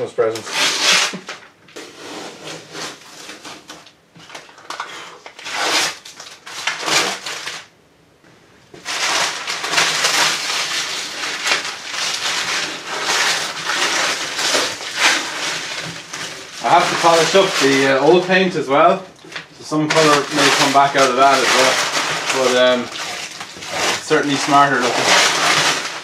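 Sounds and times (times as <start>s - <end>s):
masking tape tearing: 0.2s - 1.9s, 2.5s - 7.7s, 8.8s - 26.0s
paper crinkling: 2.7s - 7.7s, 8.8s - 26.0s.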